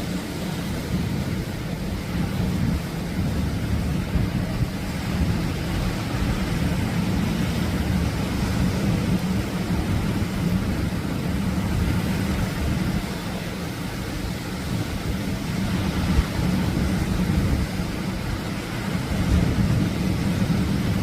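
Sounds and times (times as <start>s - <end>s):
surf breaking on shore: 0.0s - 21.0s.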